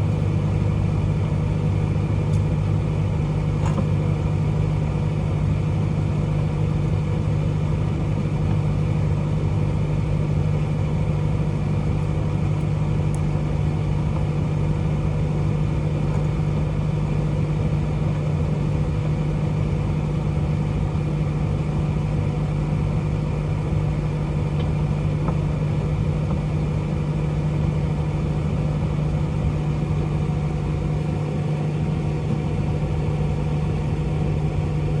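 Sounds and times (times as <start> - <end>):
fan noise: 0.0 - 35.0
microwave oven humming: 0.0 - 35.0.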